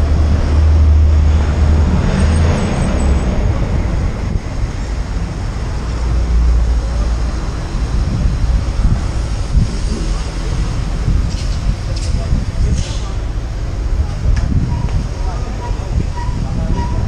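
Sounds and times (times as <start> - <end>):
car engines in slow traffic: 0.0 - 17.0.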